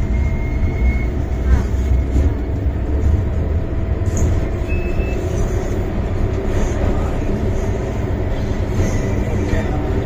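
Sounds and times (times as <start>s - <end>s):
underground train rumble: 0.0s - 10.0s.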